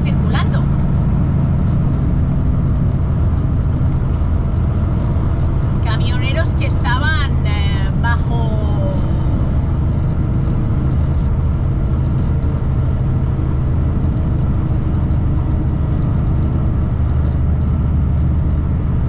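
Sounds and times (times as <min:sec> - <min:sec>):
diesel engine droning: 0:00.0 - 0:19.0
tyre and road noise: 0:00.0 - 0:19.0.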